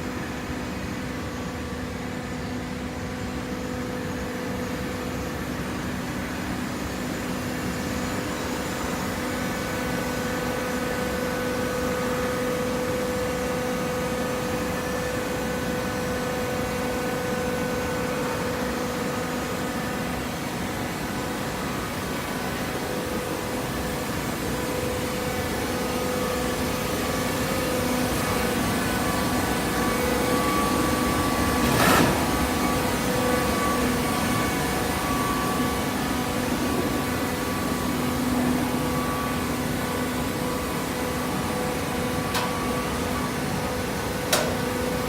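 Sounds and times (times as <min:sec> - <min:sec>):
baling machine humming: 0:07.6 - 0:45.0.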